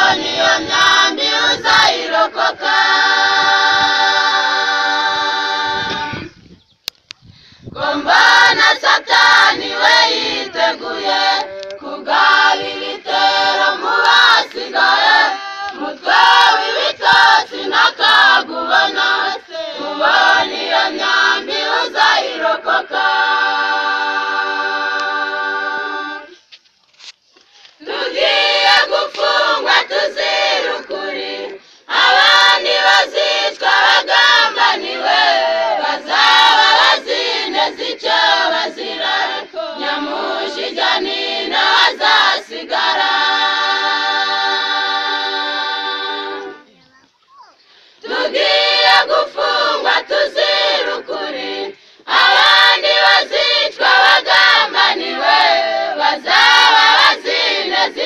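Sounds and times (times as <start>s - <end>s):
choir singing unaccompanied: 0.0s - 6.5s, 7.7s - 26.5s, 27.8s - 46.8s, 47.8s - 58.0s.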